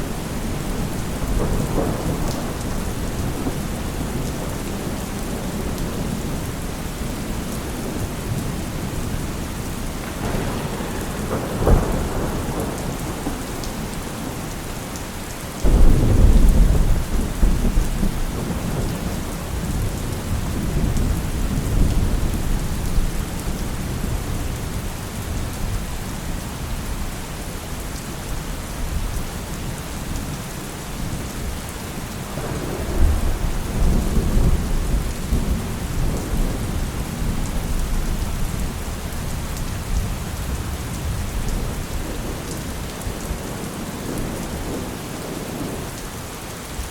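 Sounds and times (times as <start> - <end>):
thunder rumbling: 0.0 - 15.0, 15.6 - 26.0, 31.0 - 46.0
heavy rain: 0.0 - 46.9.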